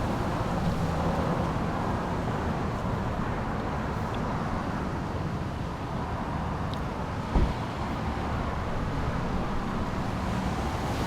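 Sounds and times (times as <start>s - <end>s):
highway traffic hum: 0.0s - 11.0s.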